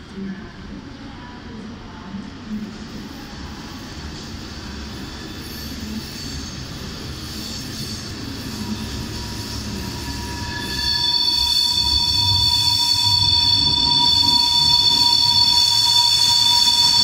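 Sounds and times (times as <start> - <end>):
train low rumble: 0.0 - 17.0
train wheels squealing on rails: 2.5 - 17.0.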